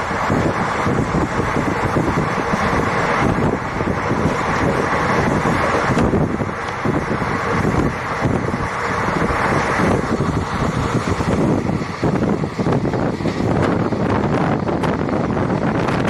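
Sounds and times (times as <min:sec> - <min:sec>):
train rumble: 0:00.0 - 0:16.0
wind buffeting microphone: 0:00.0 - 0:16.0.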